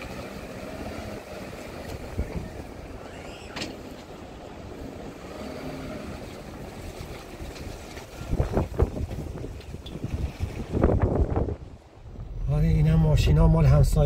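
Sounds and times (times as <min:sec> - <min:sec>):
car engine running: 0:00.0 - 0:11.6
wind buffeting microphone: 0:00.0 - 0:14.0.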